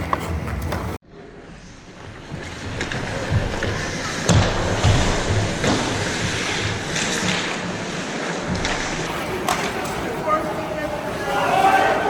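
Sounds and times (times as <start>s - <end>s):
hockey sticks and puck clacking: 0.0s - 1.0s, 2.3s - 12.0s
skate blades scraping on ice: 0.0s - 1.0s, 2.3s - 12.0s.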